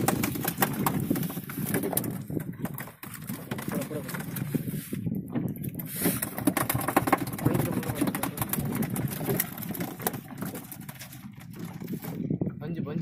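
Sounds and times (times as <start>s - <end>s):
knocking and rattling on a boat: 0.0s - 13.0s.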